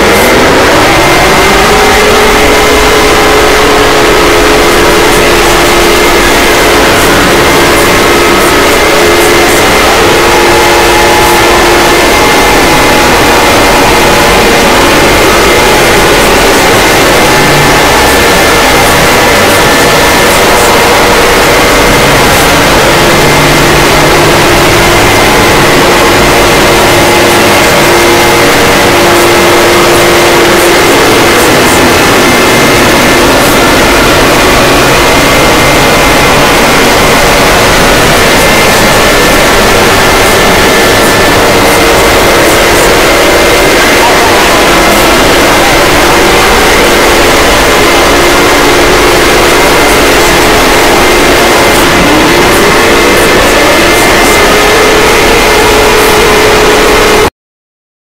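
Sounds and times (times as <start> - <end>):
distorted alarm noise: 0.0 - 57.3
faint steady high tones: 0.0 - 57.3
harsh clipped static noise: 0.0 - 57.4.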